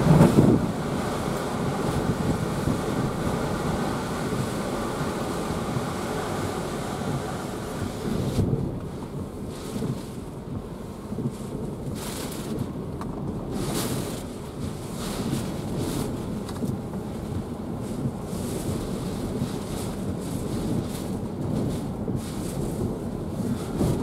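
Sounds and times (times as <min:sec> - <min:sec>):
rain hitting windshield: 0:00.0 - 0:24.0
wind rumble: 0:00.0 - 0:24.0.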